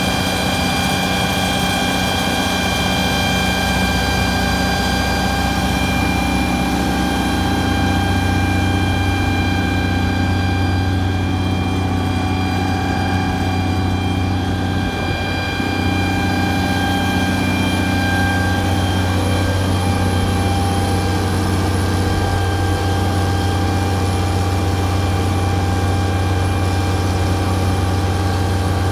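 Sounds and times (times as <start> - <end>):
pump high whine: 0.0 - 28.9
tractor engine hum: 0.0 - 28.9.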